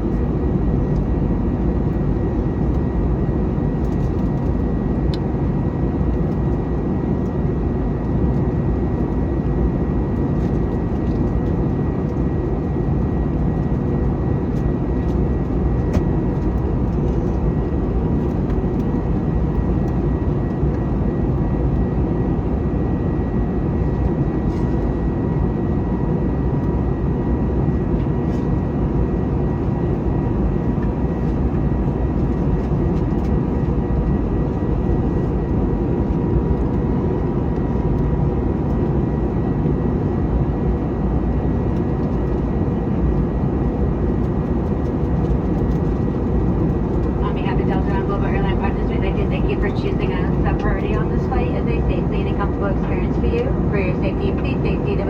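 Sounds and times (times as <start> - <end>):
airliner cabin engine roar: 0.0 - 55.0.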